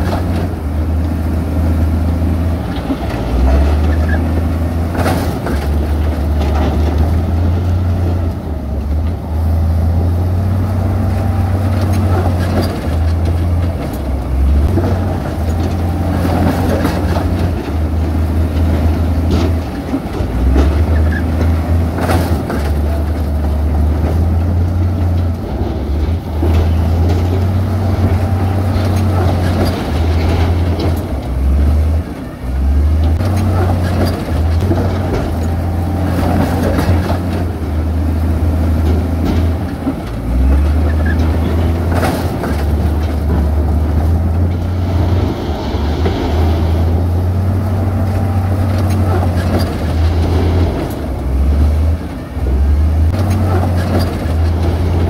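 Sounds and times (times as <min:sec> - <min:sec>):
diesel machinery rumbling: 0:00.0 - 0:55.0.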